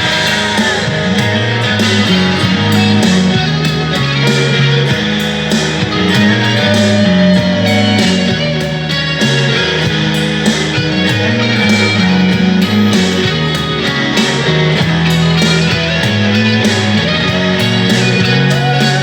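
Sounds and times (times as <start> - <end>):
electric guitar chords: 0.0 - 19.0.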